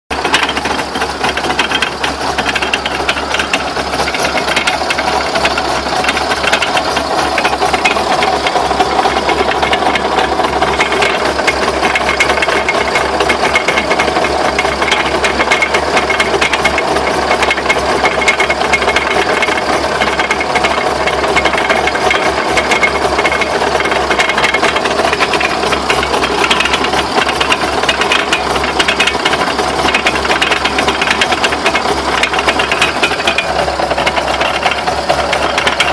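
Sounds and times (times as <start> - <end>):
car drivetrain knocking and rattling: 0.1 - 35.9.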